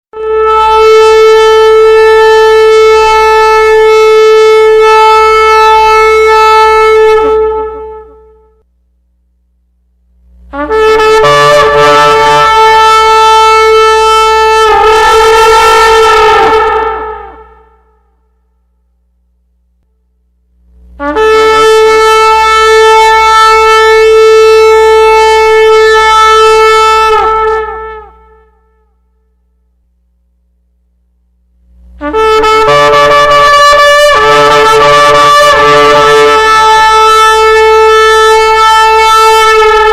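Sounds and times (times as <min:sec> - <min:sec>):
long horn blast: 0:00.1 - 0:08.6, 0:10.4 - 0:18.8, 0:19.8 - 0:29.7, 0:31.7 - 0:39.9.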